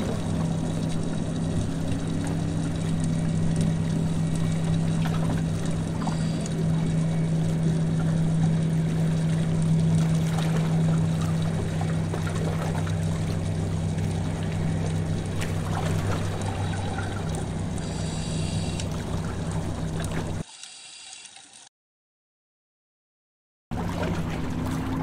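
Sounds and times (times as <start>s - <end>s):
steady low hum: 0.0s - 20.4s
underwater bubbling: 0.0s - 20.5s.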